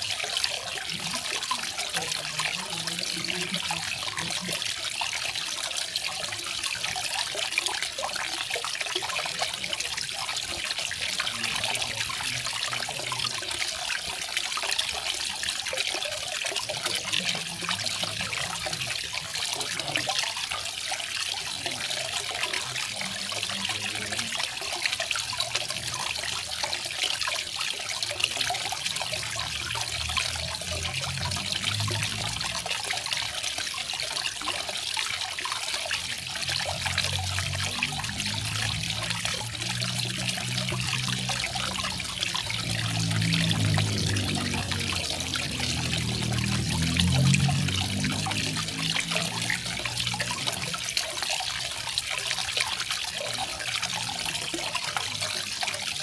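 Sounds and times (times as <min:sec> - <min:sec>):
water splashing over rocks: 0:00.0 - 0:56.0.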